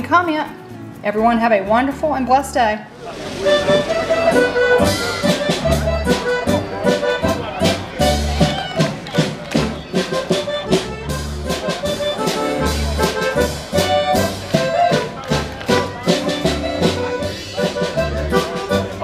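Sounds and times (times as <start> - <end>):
brass band playing: 2.9 - 19.0
tuba bass notes: 3.0 - 19.0.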